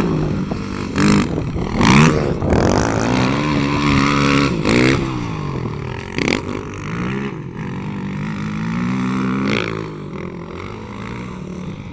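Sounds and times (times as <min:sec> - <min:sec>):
motorbike engine revving: 0:00.0 - 0:11.9.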